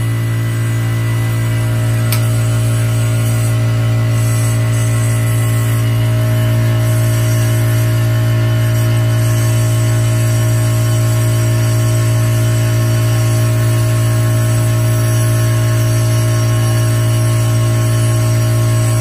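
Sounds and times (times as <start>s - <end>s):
dental suction unit humming: 0.0s - 19.0s.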